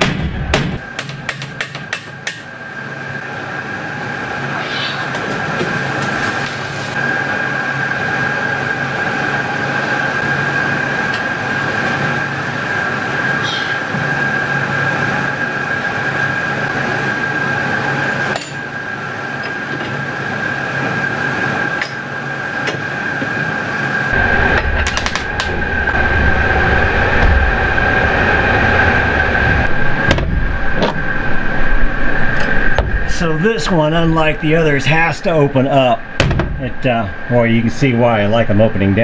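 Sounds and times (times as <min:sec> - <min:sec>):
mechanical drone with high whine: 0:00.0 - 0:39.0.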